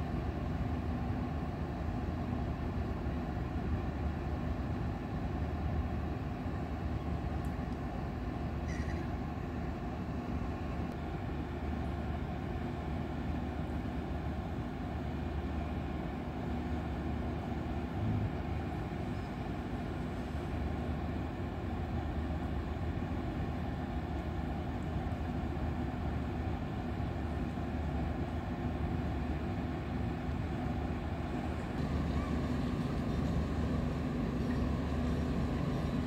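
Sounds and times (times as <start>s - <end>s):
ship diesel machinery rumbling: 0.0s - 36.0s.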